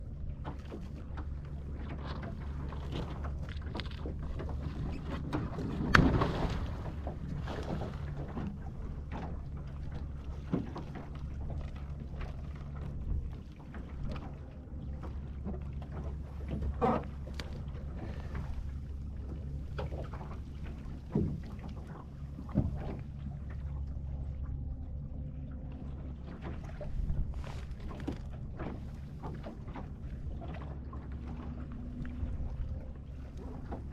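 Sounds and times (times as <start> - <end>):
water washing against boat: 0.0 - 33.9.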